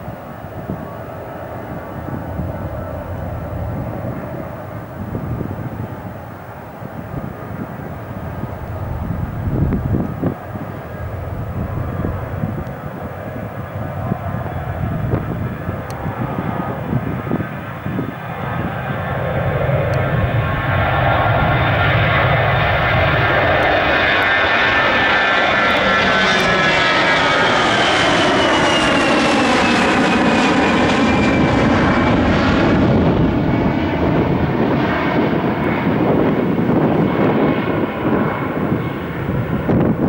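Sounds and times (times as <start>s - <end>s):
jet airliner taking off: 0.0s - 40.0s.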